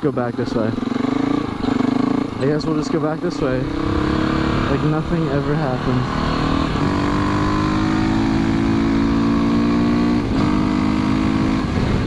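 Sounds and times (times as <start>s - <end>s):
motorcycle engine running: 0.4s - 12.0s
rushing wind: 0.7s - 12.0s.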